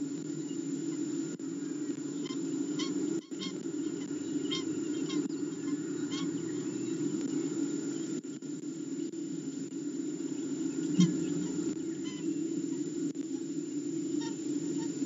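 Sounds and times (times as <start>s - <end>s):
faint bird chirps: 1.6s - 9.2s, 10.2s - 15.0s.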